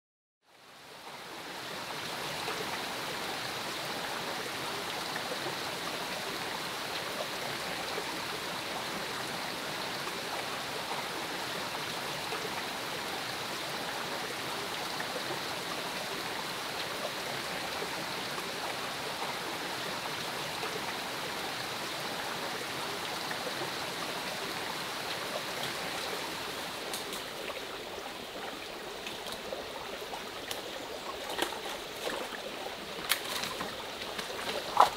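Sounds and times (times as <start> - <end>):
stream running over rocks: 0.5 - 34.9.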